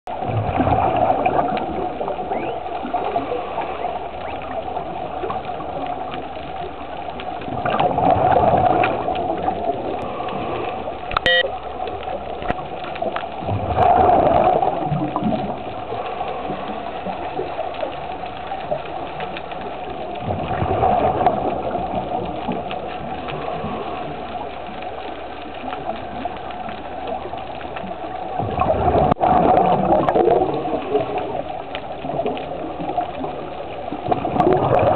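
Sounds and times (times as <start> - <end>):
exhaled bubbles gurgling: 0.1 - 34.9.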